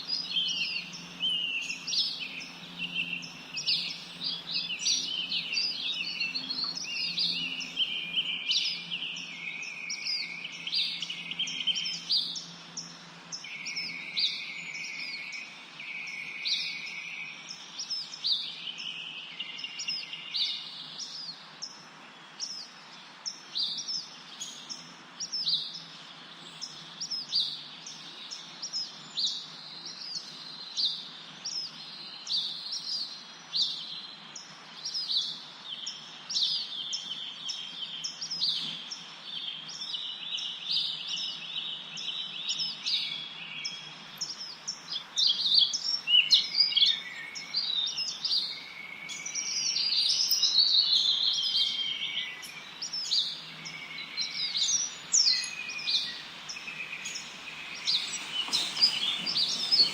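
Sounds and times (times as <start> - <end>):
faint background hiss: 0.0 - 59.9
small birds chirping: 0.0 - 59.9.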